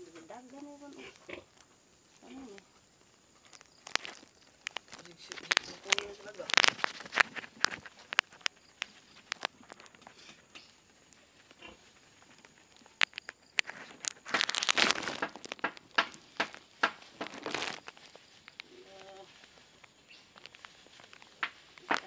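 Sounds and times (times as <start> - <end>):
sharp clicks and crackles: 0.1 - 22.0
plastic crinkling: 0.3 - 22.0.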